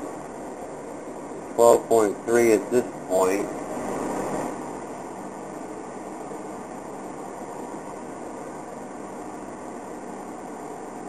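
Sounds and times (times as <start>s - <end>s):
faint steady tones: 0.0s - 11.0s
fan whirring: 0.0s - 11.0s.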